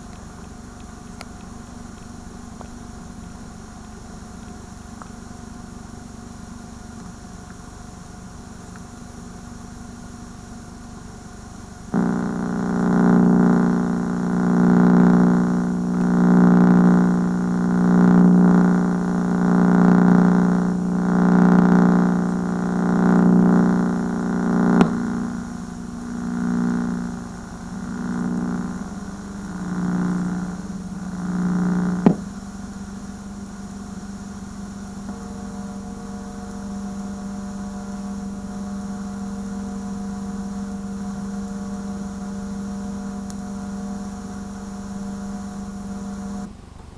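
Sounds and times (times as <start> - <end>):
loud pulsing buzz: 0.0 - 46.6
faint tape hiss: 0.0 - 46.9.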